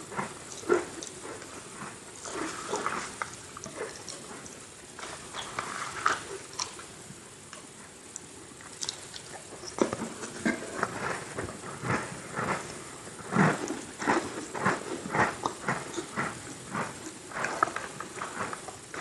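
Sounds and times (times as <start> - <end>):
crunchy cookie chewing: 0.0 - 19.0.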